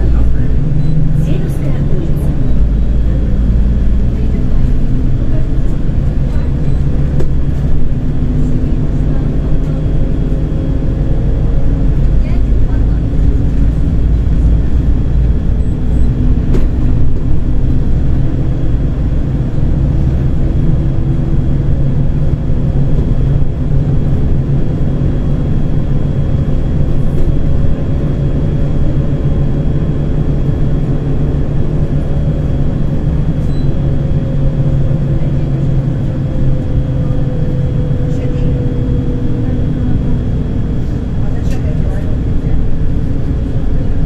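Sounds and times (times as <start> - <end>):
bus engine drone: 0.0 - 44.0
road noise inside cabin: 0.0 - 44.0.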